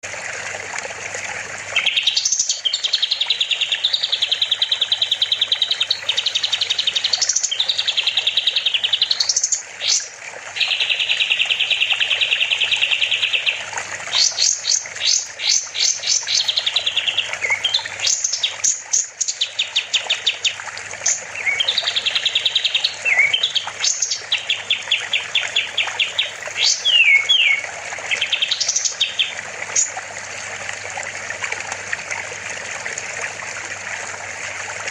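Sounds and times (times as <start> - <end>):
songbird singing buzzy trills: 1.7 - 30.0.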